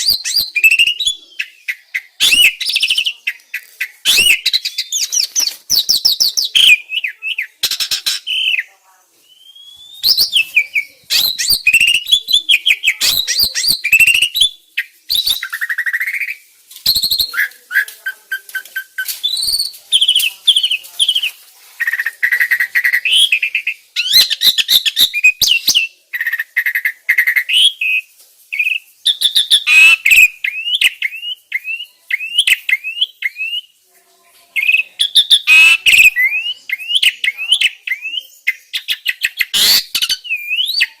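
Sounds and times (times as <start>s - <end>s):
starling song: 0.0s - 25.9s, 28.5s - 38.3s.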